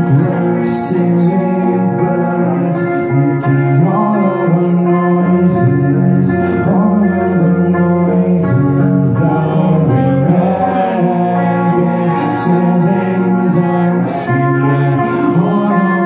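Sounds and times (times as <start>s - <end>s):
bass guitar: 0.0s - 16.0s
electric guitar chords: 0.0s - 16.0s.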